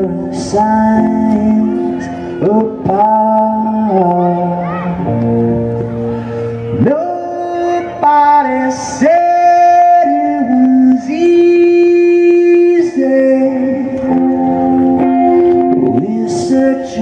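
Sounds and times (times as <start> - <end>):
person singing long notes: 0.0 - 17.0.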